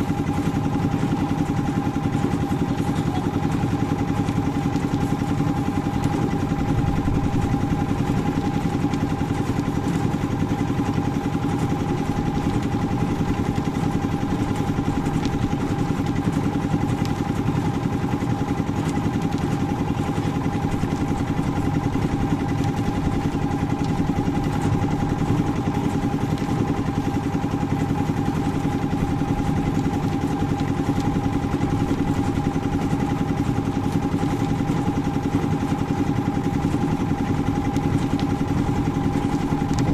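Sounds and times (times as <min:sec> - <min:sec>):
concrete mixer running: 0:00.0 - 0:39.9.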